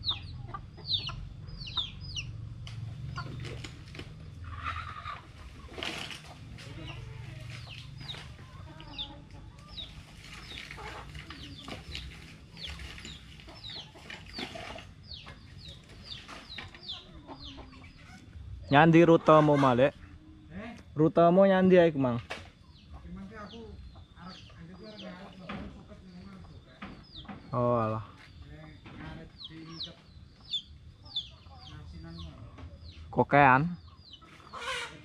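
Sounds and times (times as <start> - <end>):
chickens clucking: 0.0 - 35.0.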